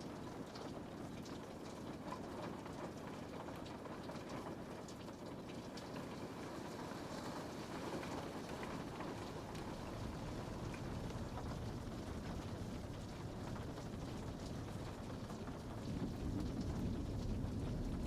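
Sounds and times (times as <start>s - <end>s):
raindrop ticks: 0.0s - 6.8s, 7.8s - 18.0s
rain on a window: 0.0s - 18.0s.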